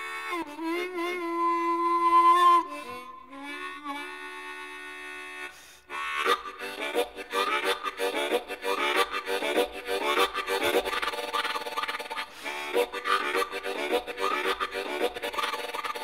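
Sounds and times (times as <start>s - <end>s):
blues harmonica playing: 0.0s - 16.0s.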